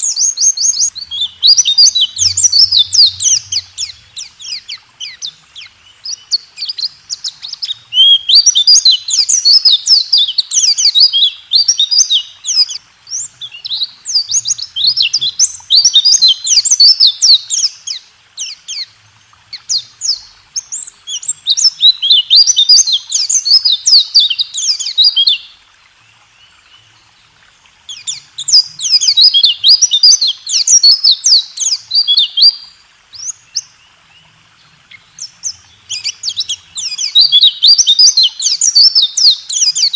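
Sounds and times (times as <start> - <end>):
bird rapid high chirping song: 0.0 - 18.9, 19.5 - 25.4, 27.9 - 33.7, 35.0 - 39.9.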